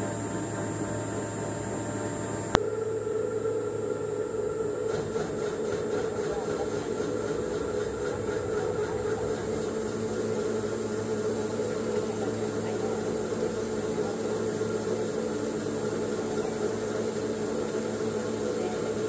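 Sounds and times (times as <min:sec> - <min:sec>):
machine humming with tone: 0:00.0 - 0:19.0.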